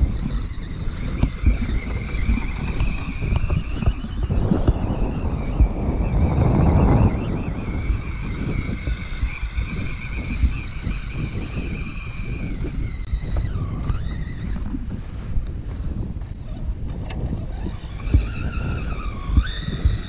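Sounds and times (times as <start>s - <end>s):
rc truck electric motor whining: 0.0s - 15.0s, 16.0s - 20.0s
wind on microphone: 0.0s - 20.0s.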